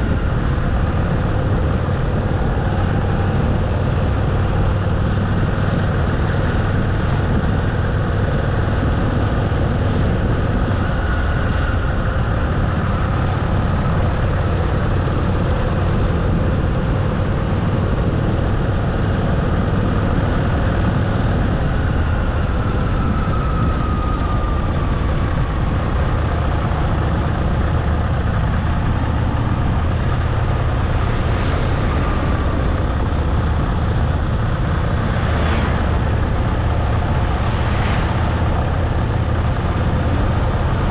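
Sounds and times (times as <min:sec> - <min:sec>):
motorcycle engine drone: 0:00.0 - 0:40.9
road noise: 0:00.0 - 0:40.9
rushing wind: 0:00.0 - 0:40.9.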